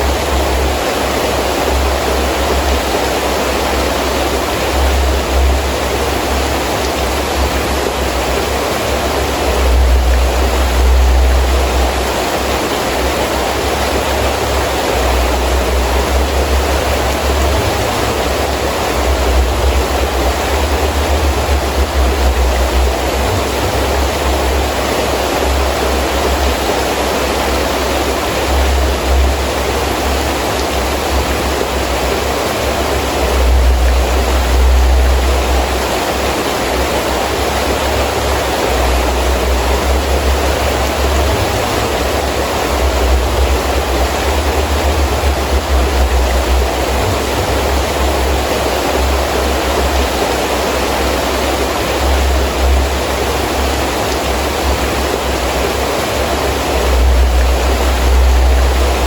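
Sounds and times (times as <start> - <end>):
heavy rain falling: 0.0 - 59.0
wind rumbling in gusts: 0.0 - 59.0.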